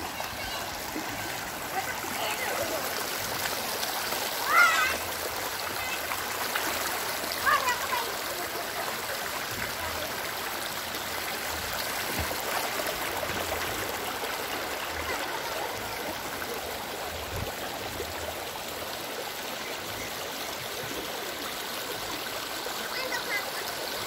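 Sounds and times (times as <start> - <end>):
stream rushing over stones: 0.0 - 24.0.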